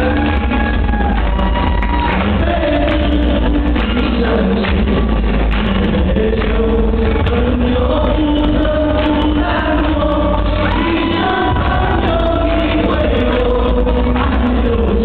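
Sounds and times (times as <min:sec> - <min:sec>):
amplified backing music: 0:00.0 - 0:15.0
group of voices singing: 0:00.0 - 0:15.0.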